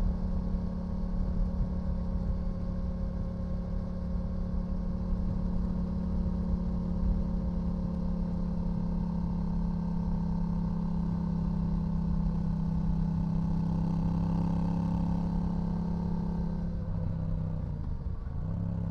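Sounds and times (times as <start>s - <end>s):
motorcycle engine at steady revs: 0.0s - 18.9s.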